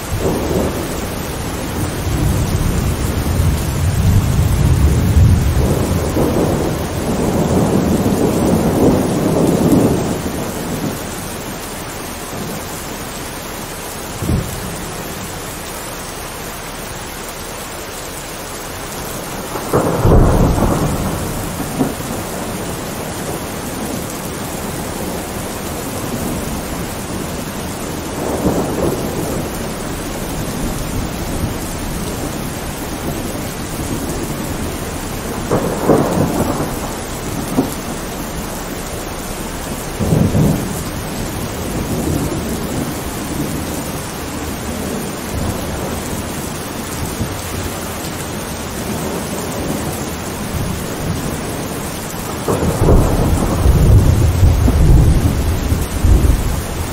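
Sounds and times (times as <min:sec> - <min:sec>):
thunder rolling: 0:00.0 - 0:11.4, 0:19.0 - 0:56.9
steady rain falling: 0:00.0 - 0:56.9.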